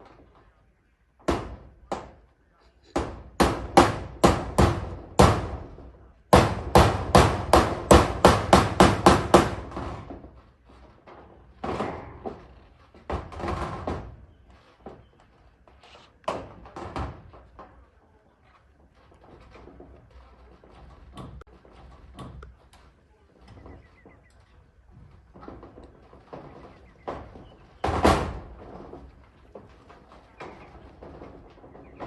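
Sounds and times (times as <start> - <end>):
hammer nailing metal roofing: 0.0 - 32.0.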